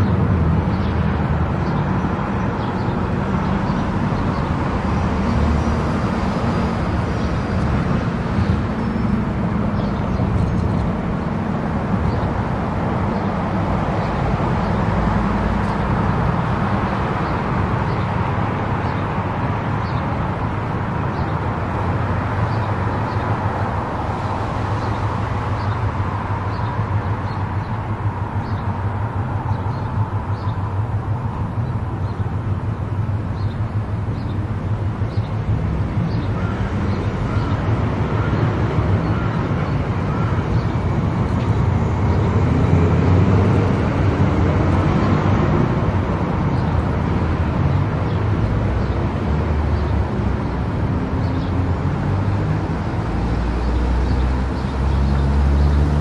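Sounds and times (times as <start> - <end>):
low engine hum: 0.0 - 56.0
road and tyre noise: 0.0 - 56.0.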